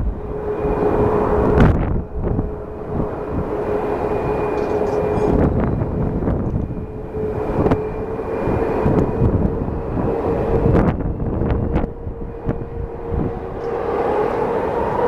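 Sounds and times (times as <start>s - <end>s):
jet engines rumbling: 0.0s - 15.0s
wind noise on microphone: 0.0s - 15.0s.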